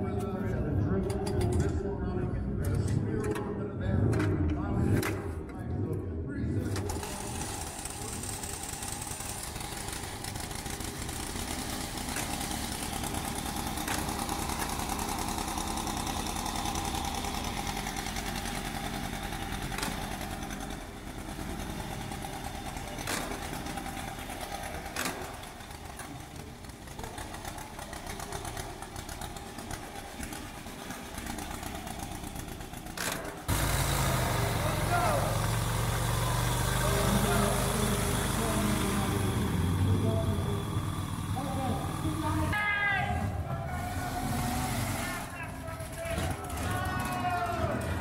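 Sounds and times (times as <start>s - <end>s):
motorcycle engine running: 6.6s - 48.0s.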